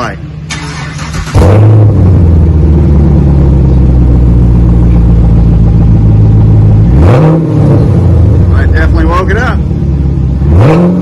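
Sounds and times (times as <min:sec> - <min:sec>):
car engine idling: 0:00.0 - 0:10.7.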